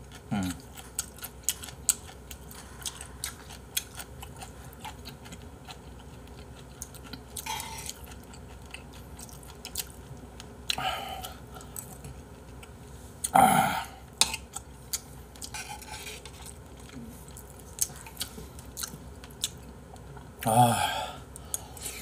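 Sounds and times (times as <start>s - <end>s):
person chewing: 0.0s - 20.6s.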